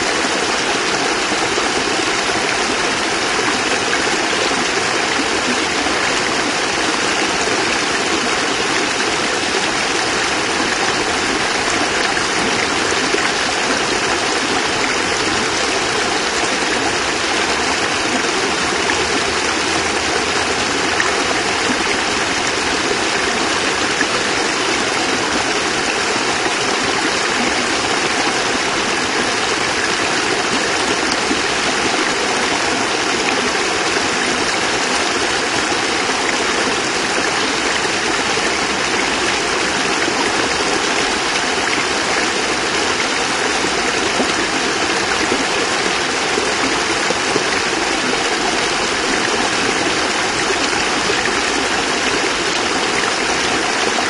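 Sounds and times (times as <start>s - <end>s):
water cascade splashing: 0.0s - 54.0s.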